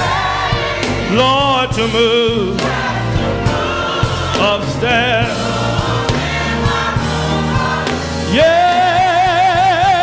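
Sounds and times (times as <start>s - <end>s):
choir singing gospel: 0.0s - 10.0s.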